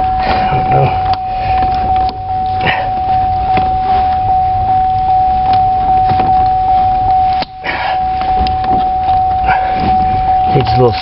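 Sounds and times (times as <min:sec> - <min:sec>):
pulsing electronic warning chime: 0:00.0 - 0:11.0.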